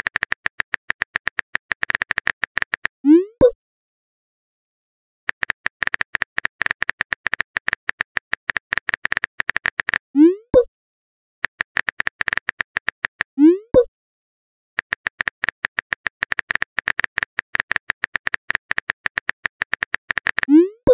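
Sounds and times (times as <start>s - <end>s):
phone keyboard tapping clicks: 0.0s - 3.6s, 5.3s - 10.0s, 11.4s - 13.9s, 14.8s - 20.9s.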